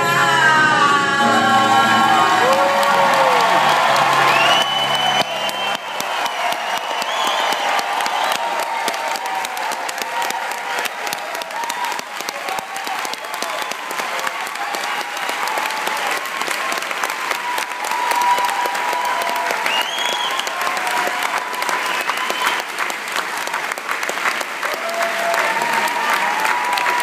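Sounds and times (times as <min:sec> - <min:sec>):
audience applauding: 0:01.2 - 0:27.0.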